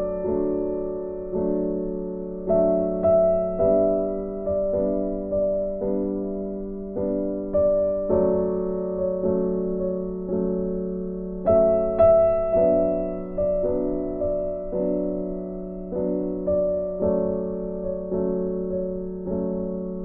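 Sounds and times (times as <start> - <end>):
soft piano music: 0.0 - 20.0.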